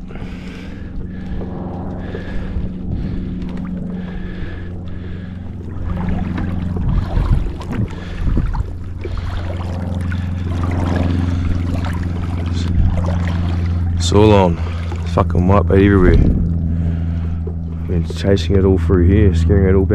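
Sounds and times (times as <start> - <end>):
river water splashing: 0.0 - 18.8
low rumble: 0.0 - 19.9.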